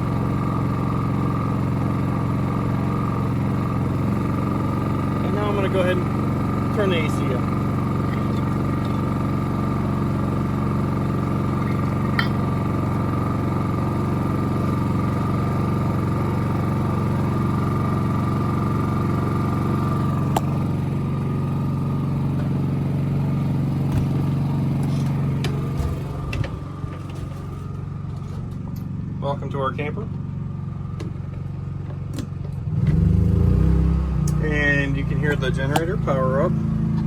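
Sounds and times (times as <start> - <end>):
generator humming: 0.0 - 33.4, 34.1 - 37.0.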